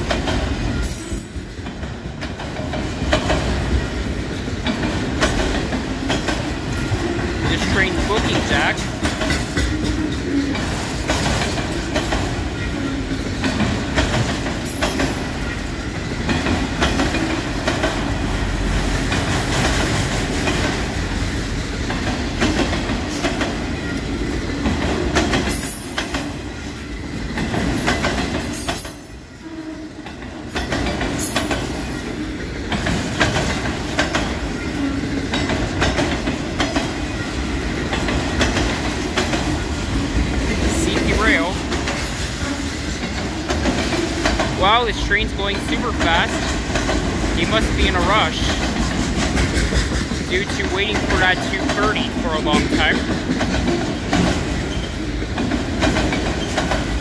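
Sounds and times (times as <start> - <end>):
freight train passing: 0.0 - 57.0
wheels clattering over rails: 0.0 - 57.0.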